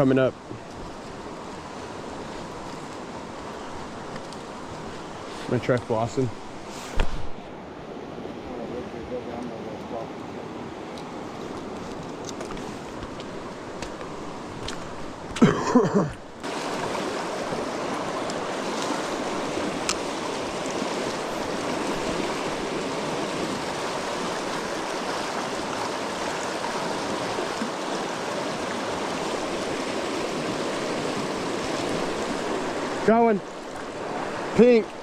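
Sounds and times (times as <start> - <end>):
creek water running: 0.0 - 35.0.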